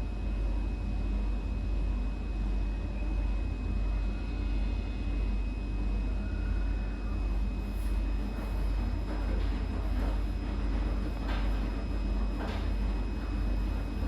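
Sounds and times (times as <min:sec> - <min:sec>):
washing machine running: 0:00.0 - 0:14.0.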